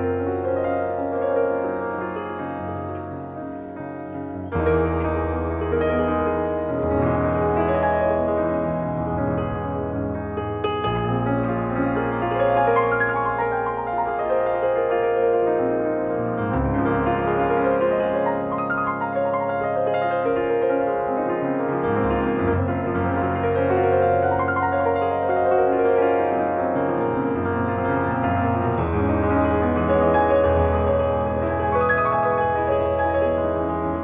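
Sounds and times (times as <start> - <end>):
gentle piano melody: 0.0 - 34.0.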